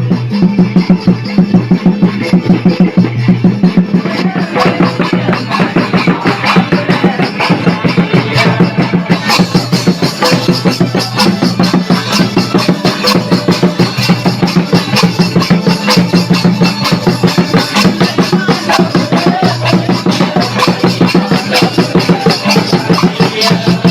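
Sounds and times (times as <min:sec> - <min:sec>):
folk dance music: 0:00.0 - 0:23.9
quick steady drum beat: 0:00.0 - 0:23.9.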